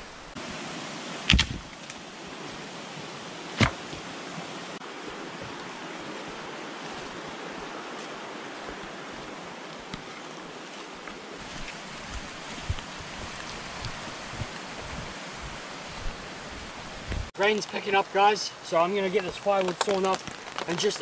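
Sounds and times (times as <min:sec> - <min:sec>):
rain falling on bush: 0:00.0 - 0:21.0.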